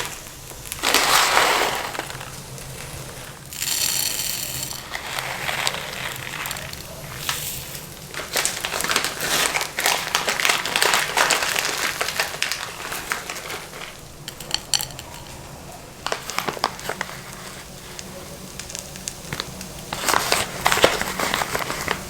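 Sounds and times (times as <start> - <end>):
crinkling and rustling handling: 0.0 - 22.0.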